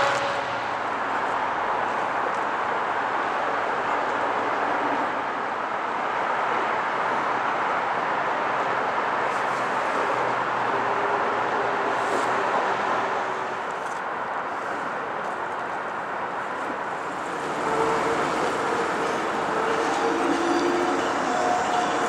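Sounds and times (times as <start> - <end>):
train running on track: 0.0 - 22.0.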